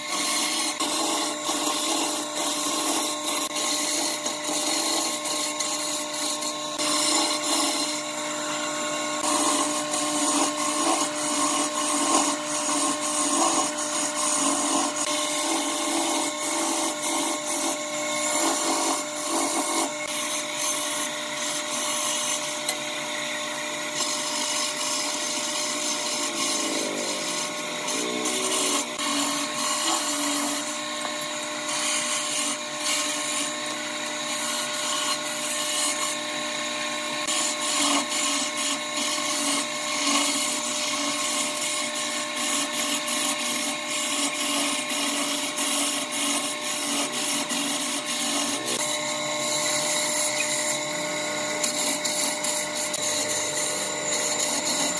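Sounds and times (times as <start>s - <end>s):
chisel scraping spinning wood: 0.0s - 54.9s
wood lathe motor tone: 0.0s - 54.9s.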